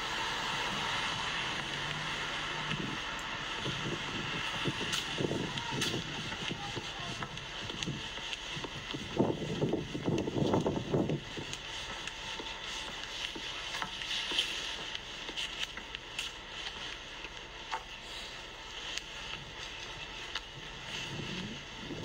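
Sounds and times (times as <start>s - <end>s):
even street hiss: 0.0s - 22.0s.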